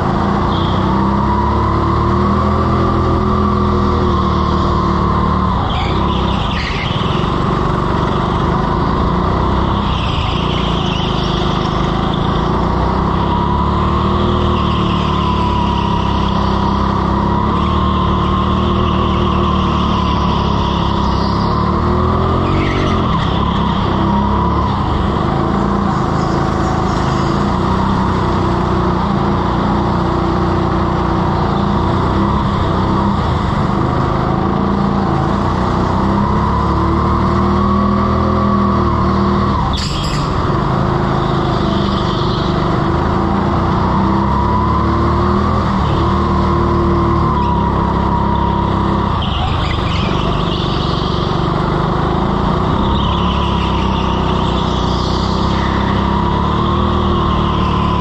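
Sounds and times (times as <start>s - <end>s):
go-kart engine: 0.0s - 58.0s
tyre squeals: 0.3s - 35.3s, 36.0s - 58.0s.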